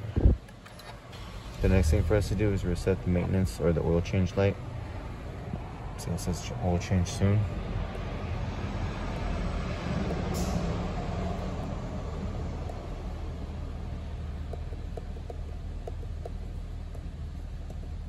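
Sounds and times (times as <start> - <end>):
car engine idling: 1.1 - 18.0.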